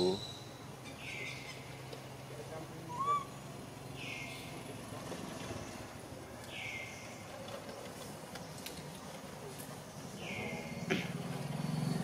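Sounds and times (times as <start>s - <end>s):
faint low engine hum: 0.0s - 12.0s.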